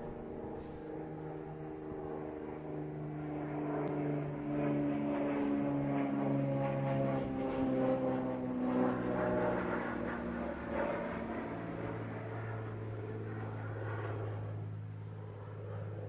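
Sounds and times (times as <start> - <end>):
airplane engine drone: 0.0 - 16.0.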